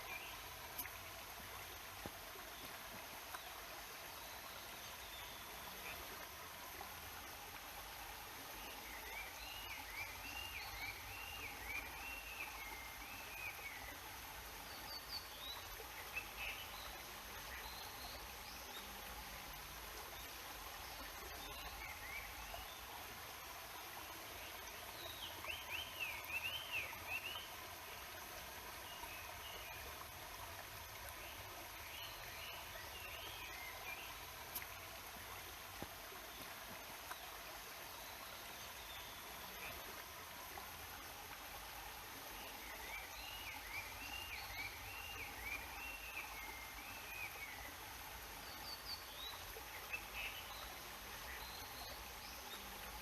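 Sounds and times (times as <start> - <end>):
stream and waterfall rushing: 0.0 - 53.0.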